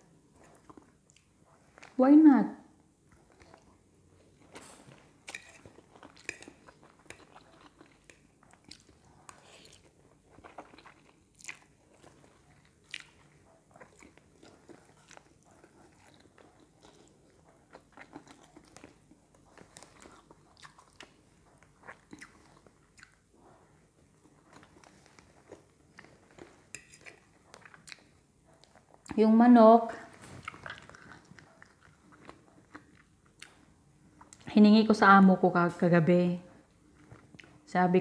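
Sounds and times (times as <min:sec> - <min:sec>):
person chewing: 0:00.3 - 0:02.0, 0:03.1 - 0:29.2, 0:30.1 - 0:34.5.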